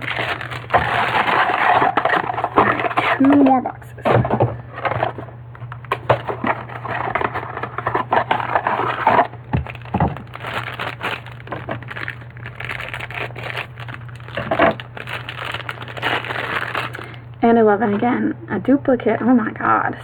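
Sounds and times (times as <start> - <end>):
cardboard packaging crinkling: 0.0 - 3.6, 4.2 - 18.0.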